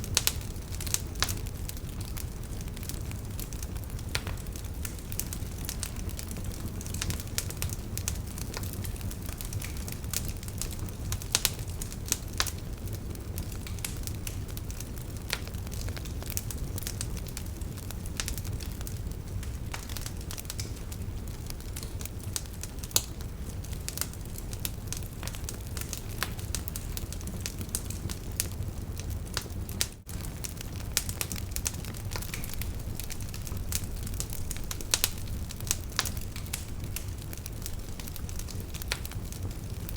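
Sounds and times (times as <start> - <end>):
campfire crackling and popping: 0.0 - 39.9
low rumble of burning fire: 0.0 - 39.9.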